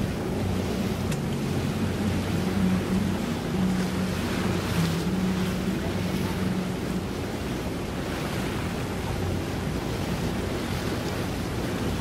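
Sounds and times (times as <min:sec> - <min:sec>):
boat motor hum: 0:00.0 - 0:12.0
water noise: 0:00.0 - 0:12.0
wind: 0:00.0 - 0:12.0.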